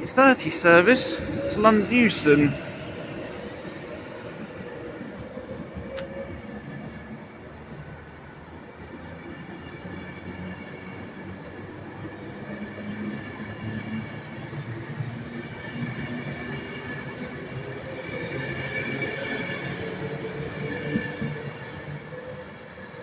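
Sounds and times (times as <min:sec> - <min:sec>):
electric train rumbling past: 0:00.0 - 0:23.0
faint high train whine: 0:00.0 - 0:23.0.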